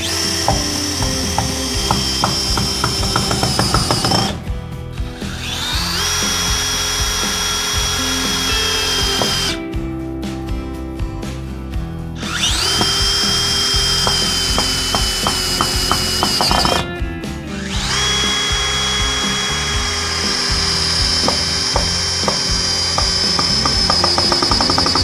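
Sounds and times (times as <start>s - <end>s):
power drill driving screws: 0.0s - 4.4s, 5.2s - 9.6s, 12.2s - 16.9s, 17.5s - 25.0s.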